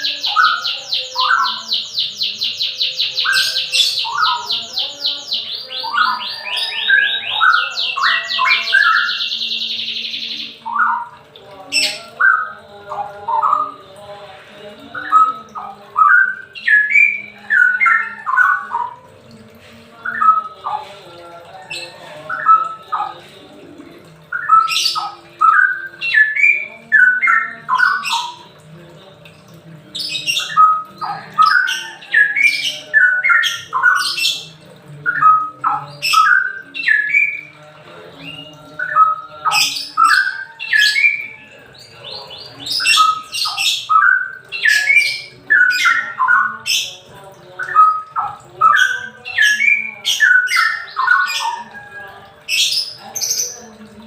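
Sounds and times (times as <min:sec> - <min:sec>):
bird singing rapid rich notes: 0:00.0 - 0:54.0.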